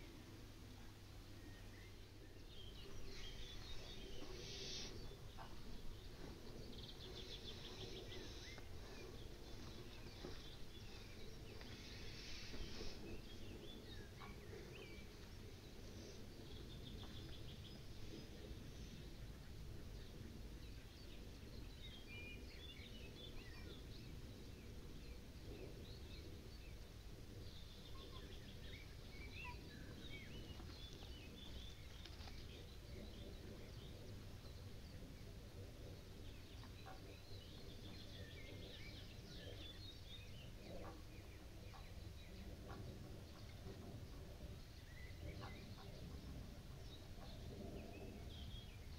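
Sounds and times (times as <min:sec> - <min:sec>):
low outdoor rumble: 0:00.0 - 0:48.9
small birds chirping: 0:00.0 - 0:48.9.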